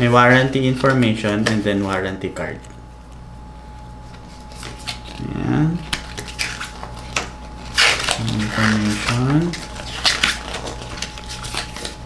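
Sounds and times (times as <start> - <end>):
paper rustling and folding: 0.1 - 2.7, 4.0 - 12.0.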